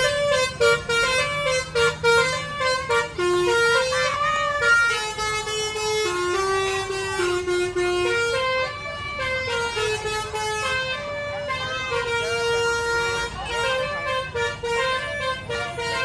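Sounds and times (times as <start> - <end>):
musical bus air horn melody: 0.0 - 16.0.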